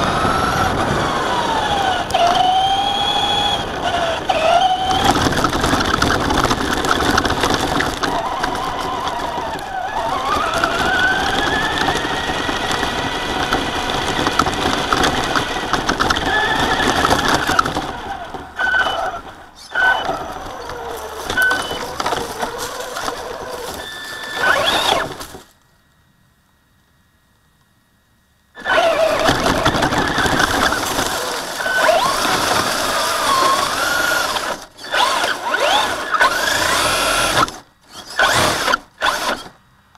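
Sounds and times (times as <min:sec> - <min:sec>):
electric motor whine: 0:00.0 - 0:25.5, 0:28.6 - 0:39.6
tyres and chassis rattling: 0:00.0 - 0:25.6, 0:28.6 - 0:39.8.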